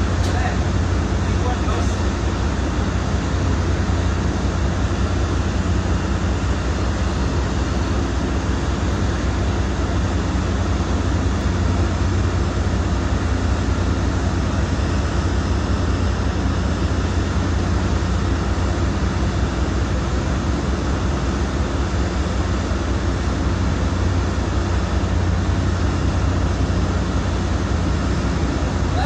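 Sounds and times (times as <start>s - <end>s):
constant rushing noise: 0.0s - 29.0s
ship engines droning: 0.0s - 29.0s.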